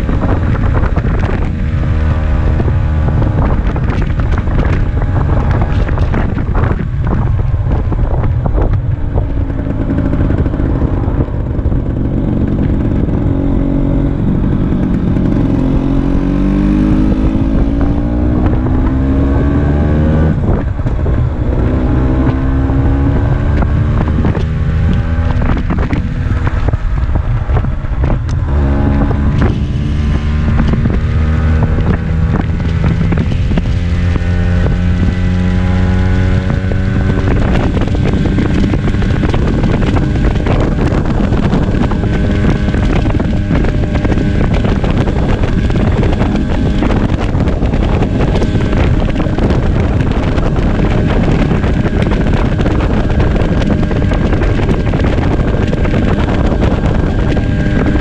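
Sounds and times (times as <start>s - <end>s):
scooter engine running: 0.0s - 58.0s
wind buffeting microphone: 0.0s - 58.0s.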